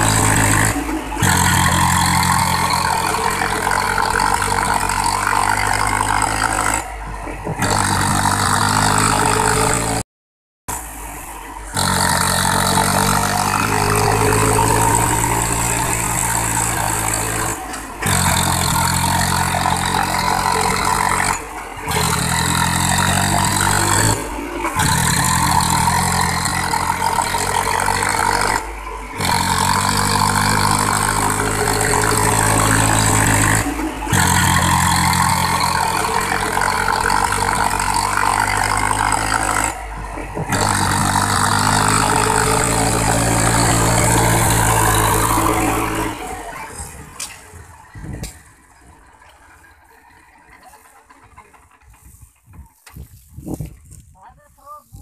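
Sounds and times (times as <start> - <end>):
tractor diesel engine straining: 0.0 - 10.0, 10.7 - 55.0.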